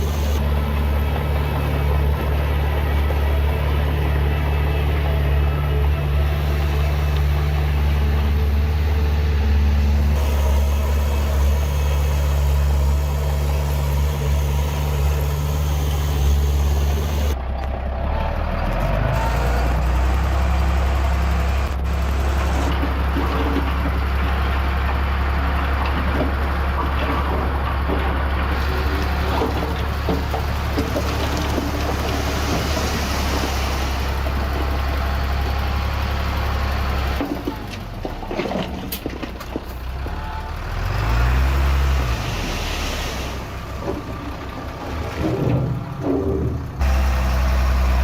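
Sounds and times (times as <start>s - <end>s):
heavy diesel engine droning: 0.0s - 48.0s.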